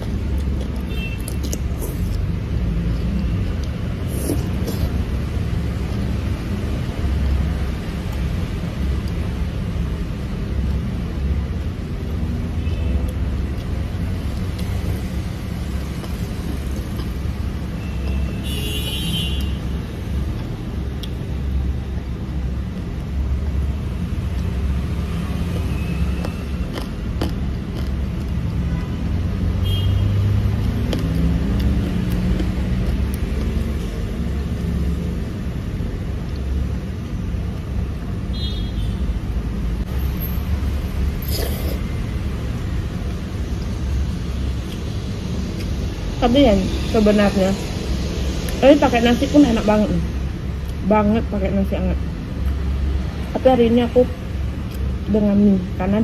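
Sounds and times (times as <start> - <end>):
low rumble of road traffic: 0.0 - 56.0.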